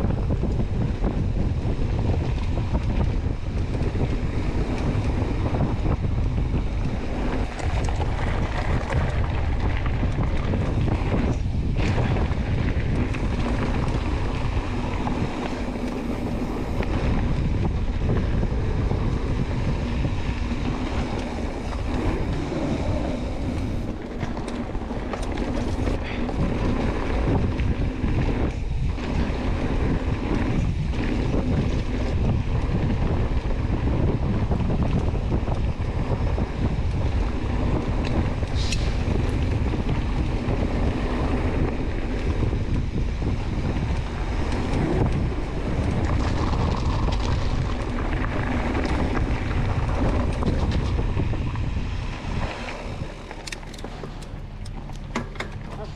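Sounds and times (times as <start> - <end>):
bike tyres rattling over dirt: 0.0 - 55.9
wind rushing over microphone: 0.0 - 55.9.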